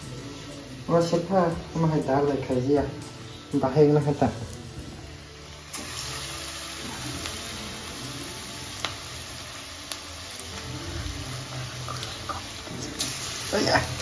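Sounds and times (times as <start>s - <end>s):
fritters sizzling in hot oil: 0.0s - 14.0s.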